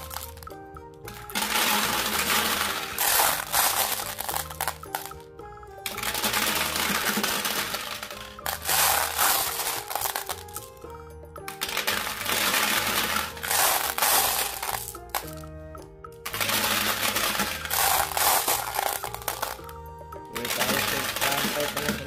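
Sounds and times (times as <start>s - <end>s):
glass marbles rattling in plastic: 0.0s - 0.5s, 1.1s - 5.3s, 5.9s - 10.8s, 11.5s - 15.5s, 16.2s - 22.0s
background music: 0.0s - 22.0s.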